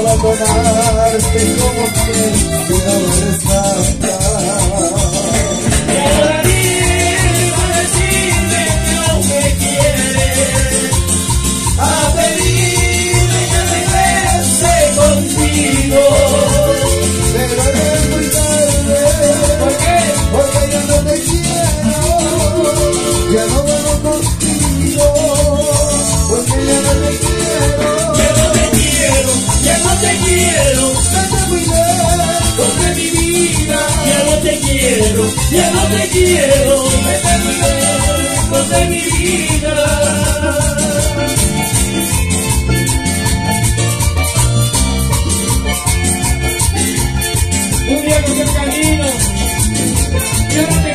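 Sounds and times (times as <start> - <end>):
electric bass: 0.0 - 50.9
latin dance band instrumental: 0.0 - 50.9
melody line: 0.0 - 50.9
steady beat: 0.0 - 50.9.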